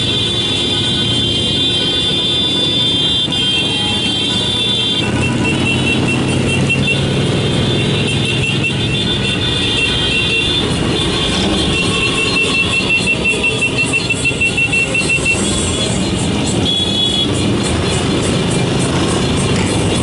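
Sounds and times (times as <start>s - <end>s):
motorcycle engines: 0.0s - 20.0s
road noise: 0.0s - 20.0s.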